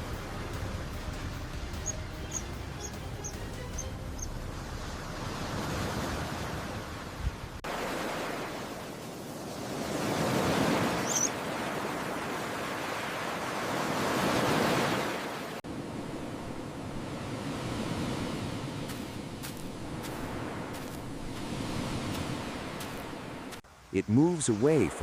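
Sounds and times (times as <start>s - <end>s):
ocean surf on a beach: 0.0s - 25.0s.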